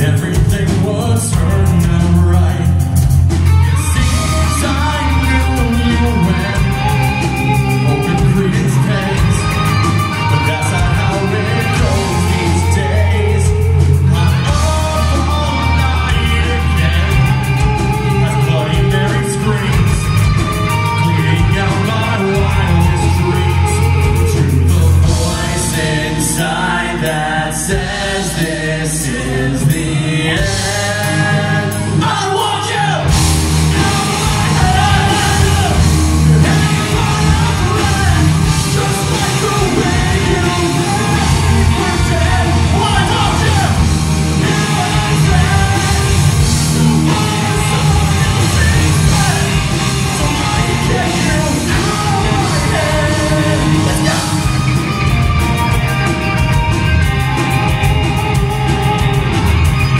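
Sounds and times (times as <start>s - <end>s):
live rock band playing: 0.0s - 59.9s
man singing lead vocals: 0.0s - 59.9s.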